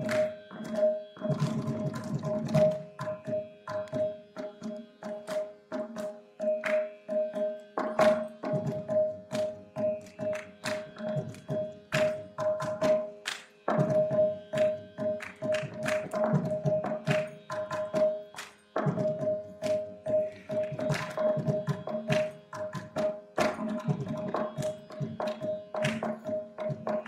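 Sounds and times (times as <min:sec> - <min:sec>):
hand drum strokes: 0:00.0 - 0:27.0.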